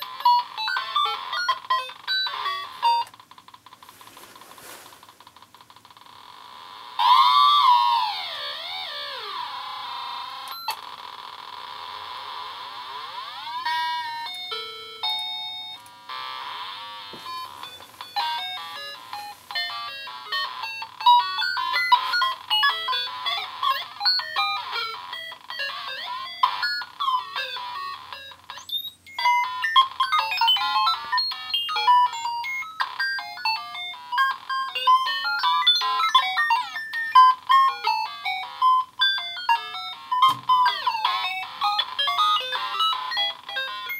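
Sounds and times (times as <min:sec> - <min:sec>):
glitchy electronic toy bleeps: 0:00.0 - 0:03.1, 0:06.8 - 0:10.8, 0:12.2 - 0:43.9.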